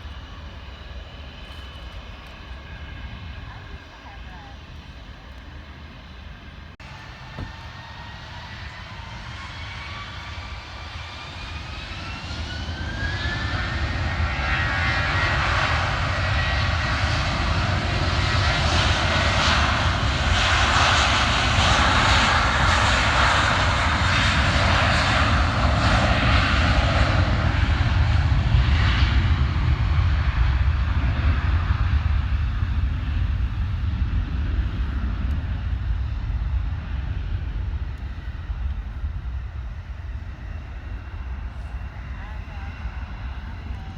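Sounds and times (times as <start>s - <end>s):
jet engines passing: 0.0s - 43.9s.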